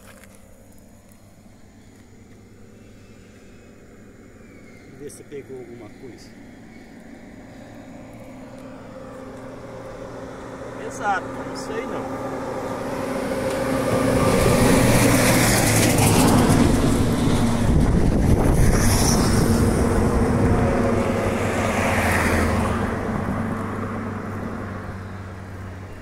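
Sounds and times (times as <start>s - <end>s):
lorry driving past: 2.4s - 26.0s.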